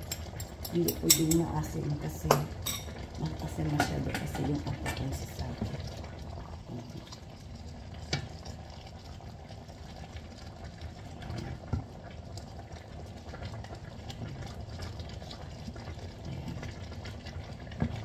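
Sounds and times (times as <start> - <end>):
broth simmering in a wok: 0.0 - 18.0.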